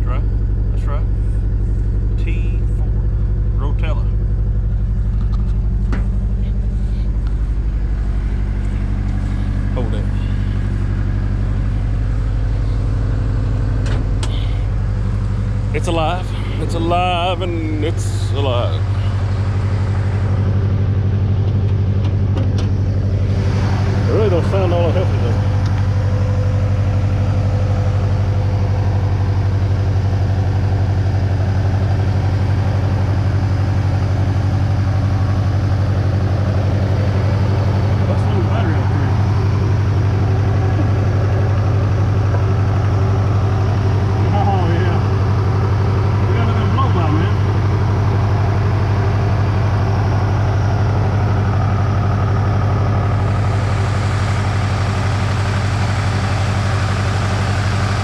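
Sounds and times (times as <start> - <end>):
engine idling with rhythmic knock: 0.0 - 58.0.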